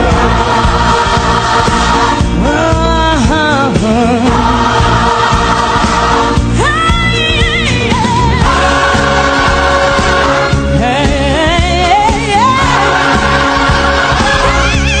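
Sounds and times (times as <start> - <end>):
choir and band sustained chords: 0.0 - 7.2, 7.8 - 15.0.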